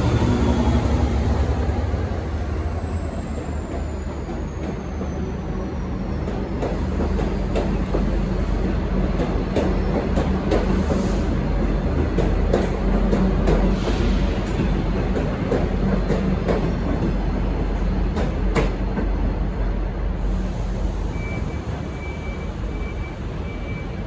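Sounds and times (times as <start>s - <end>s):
diesel train rumble: 0.0s - 24.0s.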